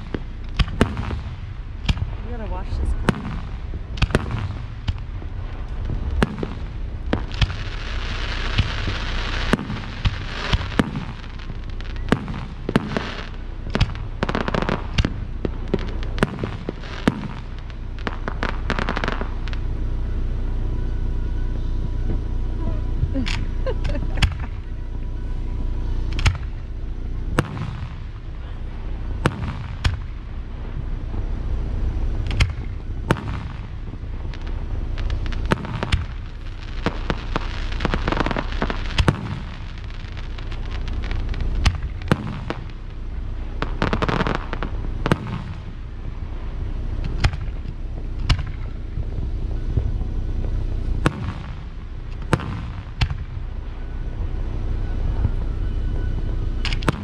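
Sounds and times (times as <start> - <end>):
firework bangs: 0.0 - 57.0
firework crackling: 0.0 - 57.0
low rumble: 0.0 - 57.0.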